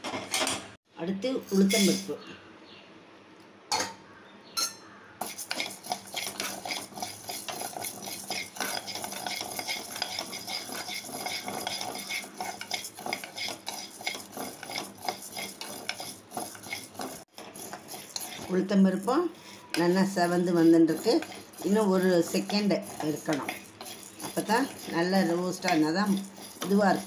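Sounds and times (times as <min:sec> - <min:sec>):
metal spoon stirring grains in pan: 0:01.5 - 0:02.1, 0:05.2 - 0:27.0.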